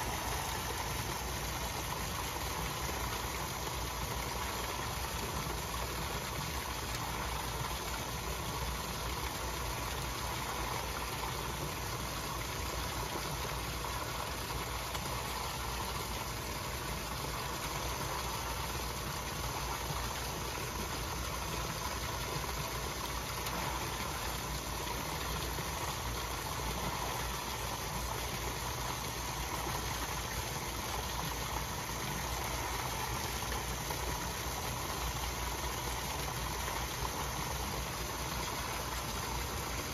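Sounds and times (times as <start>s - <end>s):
water rushing from pipe: 0.0s - 39.9s.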